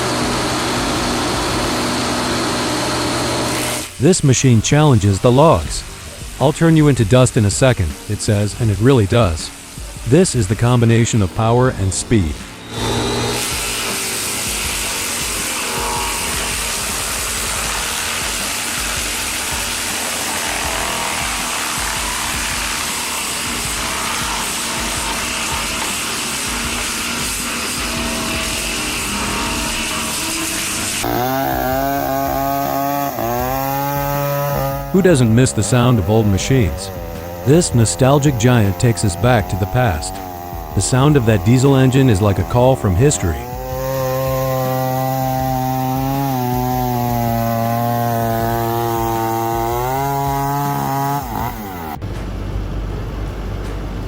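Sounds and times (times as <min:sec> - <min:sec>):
high-revving chainsaw engine: 0:00.0 - 0:06.4, 0:07.8 - 0:52.1
wood-cutting machinery din: 0:00.0 - 0:52.2.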